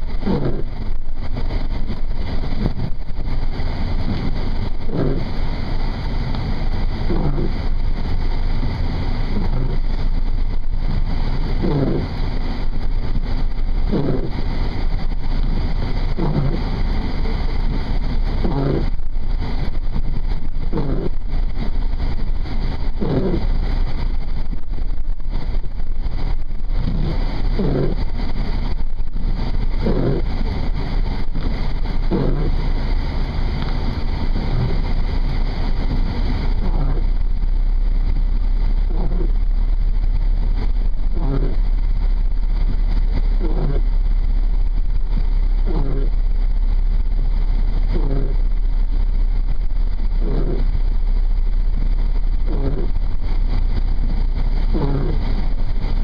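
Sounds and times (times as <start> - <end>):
vehicle driving rumble: 0.0 - 56.0.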